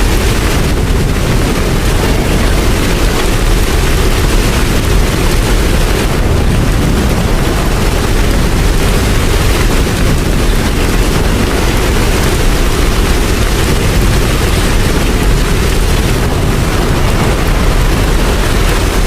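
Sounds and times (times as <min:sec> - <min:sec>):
deep even rumble: 0:00.0 - 0:19.0
steady rain: 0:00.0 - 0:19.0.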